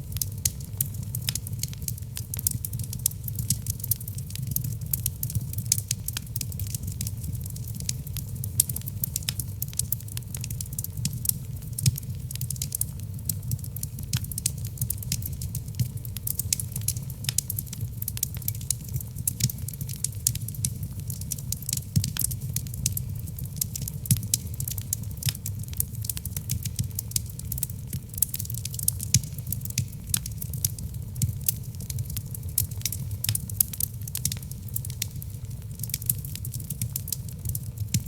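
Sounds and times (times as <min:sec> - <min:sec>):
low rumble of flames: 0:00.0 - 0:38.0
wood logs crackling and popping: 0:00.1 - 0:38.0.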